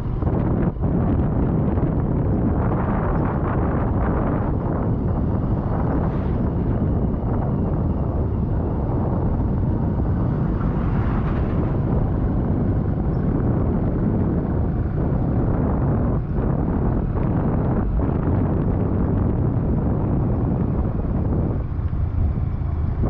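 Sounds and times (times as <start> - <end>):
vehicle noise: 0.0 - 23.0
wind buffeting microphone: 0.0 - 23.0.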